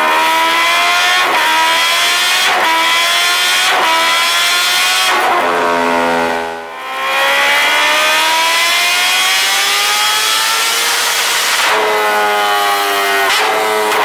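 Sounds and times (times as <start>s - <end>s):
motorcycle engine revving hard: 0.0s - 14.0s.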